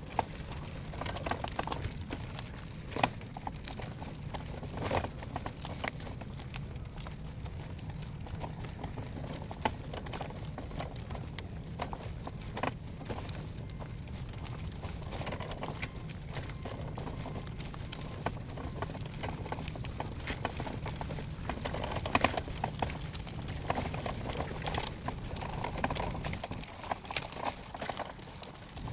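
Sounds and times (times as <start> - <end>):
stroller clicking: 0.0 - 28.9.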